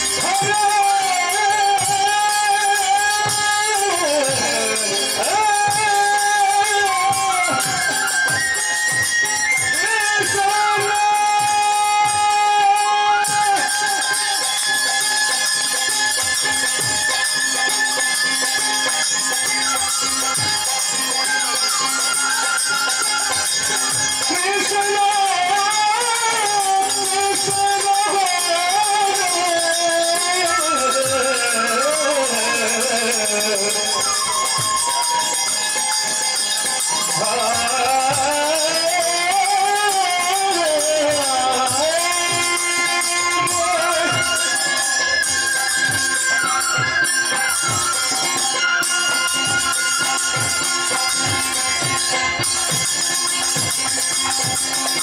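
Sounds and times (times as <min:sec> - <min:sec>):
hand cymbals ringing: 0:00.0 - 0:55.0.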